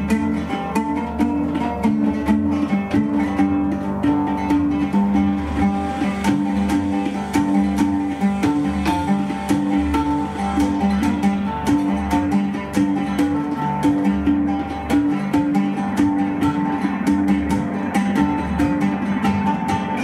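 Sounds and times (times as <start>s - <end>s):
plucked oud melody: 0.0s - 20.0s.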